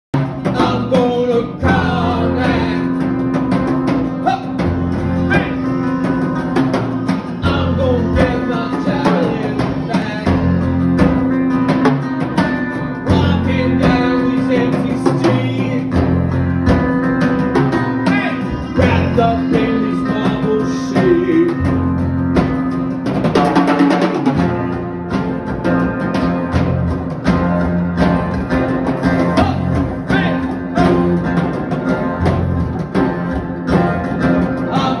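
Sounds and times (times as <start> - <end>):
drum kit: 0.1 - 35.0
electric bass: 0.2 - 35.0
strummed acoustic guitars: 0.2 - 35.0.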